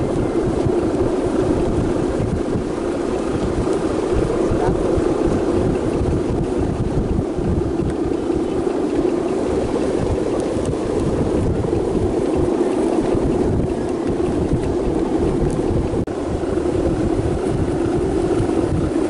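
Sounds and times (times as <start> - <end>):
steady drone: 0.0 - 19.0
wind buffeting microphone: 0.0 - 19.0.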